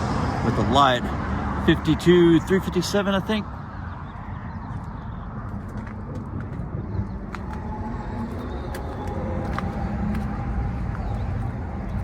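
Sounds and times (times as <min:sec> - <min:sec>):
vehicle rumbling: 0:00.0 - 0:12.0.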